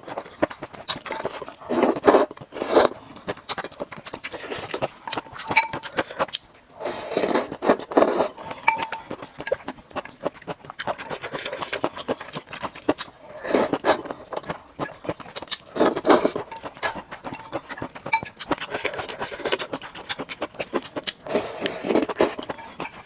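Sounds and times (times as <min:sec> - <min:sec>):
person chewing with wet mouth clicks: 0:03.1 - 0:06.5, 0:07.4 - 0:23.0.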